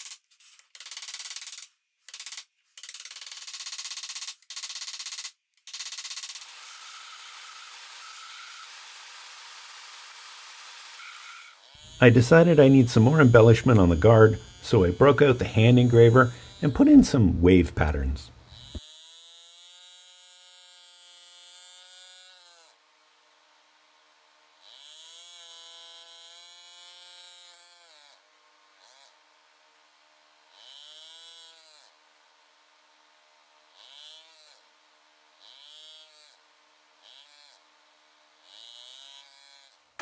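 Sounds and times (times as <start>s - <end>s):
engraving handpiece buzzing: 0.0s - 22.8s, 24.5s - 29.3s, 30.4s - 32.1s, 33.7s - 34.8s, 35.4s - 40.0s.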